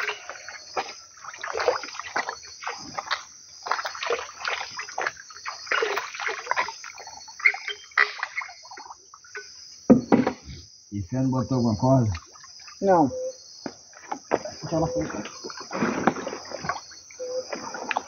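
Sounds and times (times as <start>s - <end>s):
water splashing and sloshing: 0.0s - 10.6s, 11.5s - 18.0s
high insect drone: 0.0s - 18.0s.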